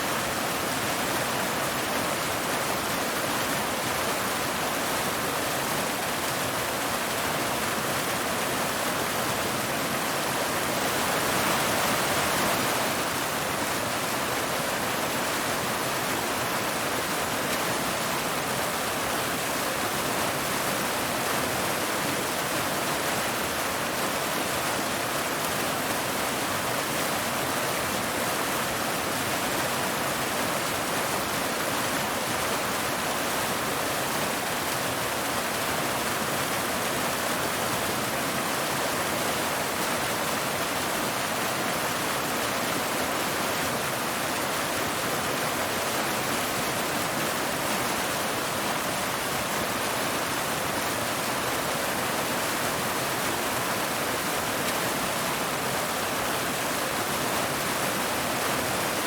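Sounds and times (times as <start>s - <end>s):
water cascading over rocks: 0.0s - 59.0s.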